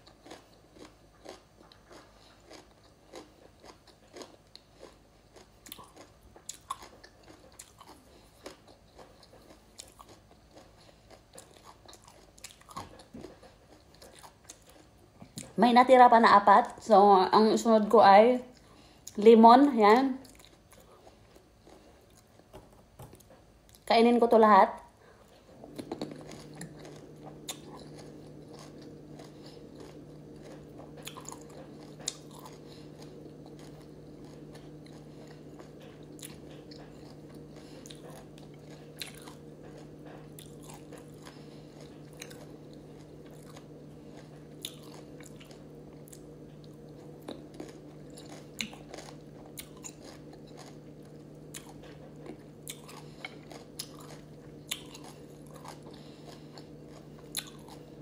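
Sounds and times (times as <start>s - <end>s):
person chewing lemon: 0.0s - 15.6s, 20.2s - 23.9s, 25.0s - 58.0s
steady low hum: 0.0s - 58.0s.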